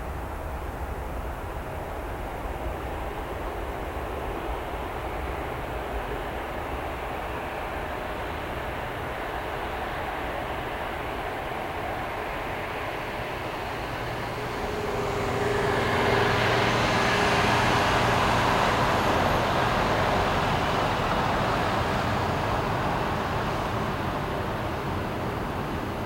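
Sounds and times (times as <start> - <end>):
jet engines roaring past: 0.0 - 26.0.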